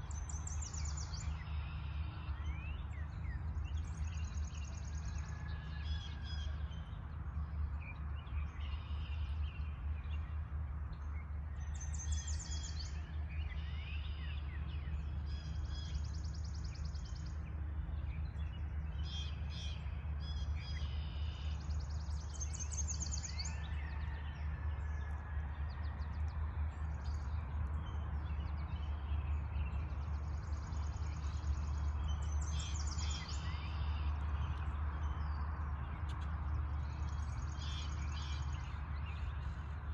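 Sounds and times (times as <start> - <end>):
songbirds singing and chirping: 0.0 - 39.9
steady low rumble: 0.0 - 39.9.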